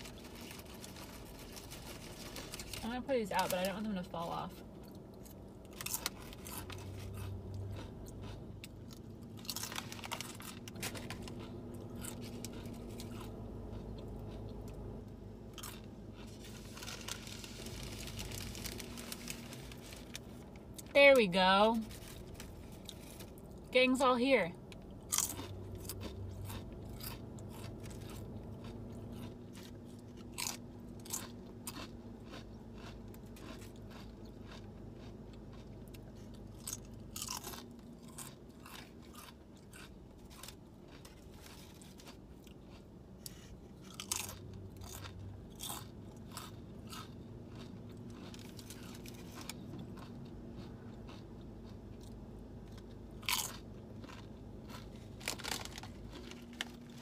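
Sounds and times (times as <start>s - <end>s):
person chewing crunchy chips: 0.0s - 3.5s, 4.5s - 20.9s, 21.6s - 23.7s, 24.6s - 57.0s.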